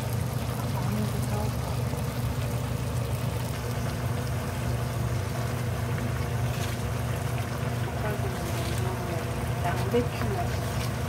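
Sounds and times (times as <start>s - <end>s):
food simmering in a wok: 0.0s - 11.0s
low machine hum: 0.0s - 11.0s.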